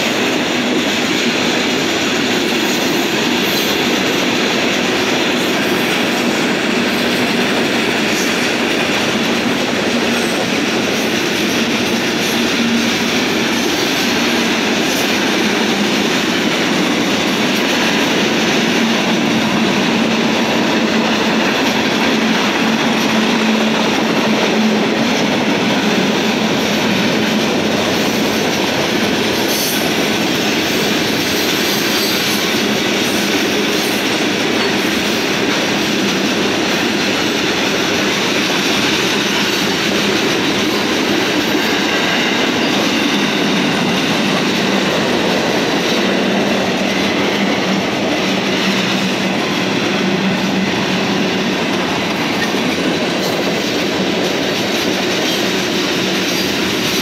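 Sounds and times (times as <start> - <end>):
train wheels rolling on rail: 0.0 - 57.0.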